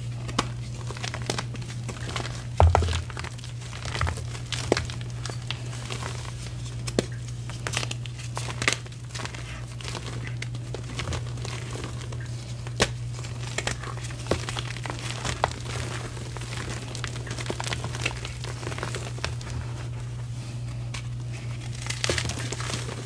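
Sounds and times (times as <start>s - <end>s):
chalk crumbling and crunching: 0.0s - 23.0s.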